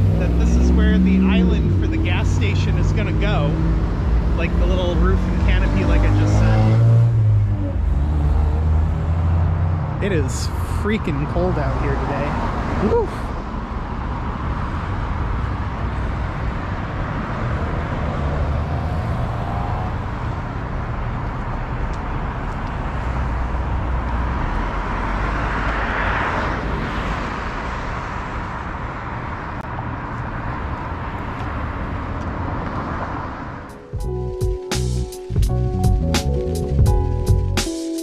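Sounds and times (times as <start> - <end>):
vehicle passing: 0.0 - 12.9, 14.0 - 34.4
road traffic rumble: 0.0 - 38.0.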